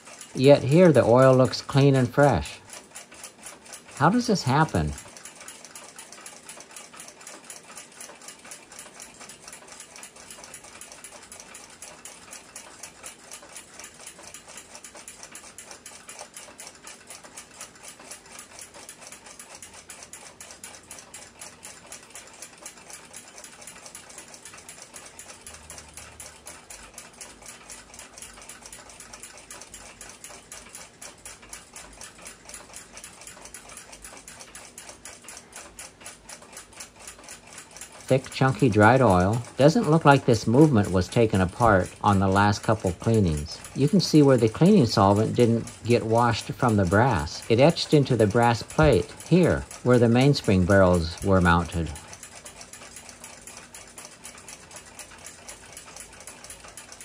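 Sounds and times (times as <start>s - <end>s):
mechanical clock ticking: 0.0s - 57.0s.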